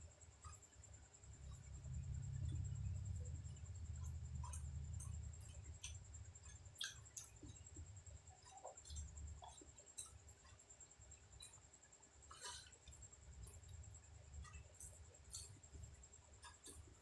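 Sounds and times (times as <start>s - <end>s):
close-up chewing: 0.4s - 17.0s.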